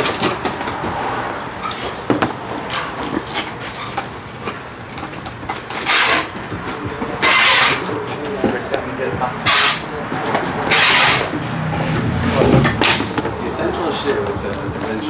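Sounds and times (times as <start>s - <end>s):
objects knocking and clattering: 0.0s - 13.4s.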